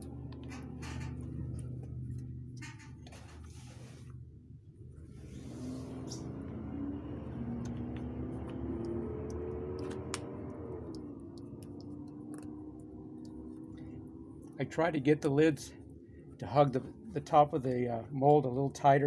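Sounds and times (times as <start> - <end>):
vehicle engine accelerating: 0.0 - 3.8, 4.9 - 18.1.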